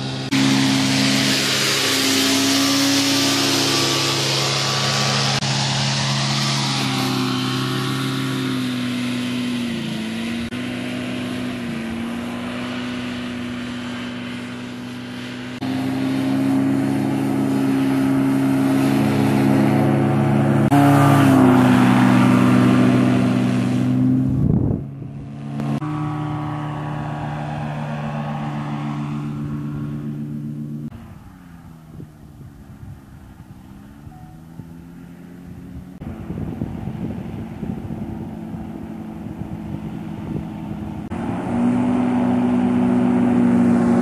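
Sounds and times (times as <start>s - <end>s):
engine and propeller droning: 0.0s - 44.0s.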